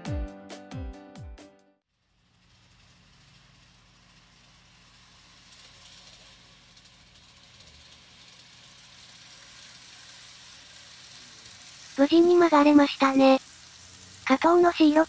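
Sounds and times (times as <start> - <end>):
model train running: 1.9 - 15.0.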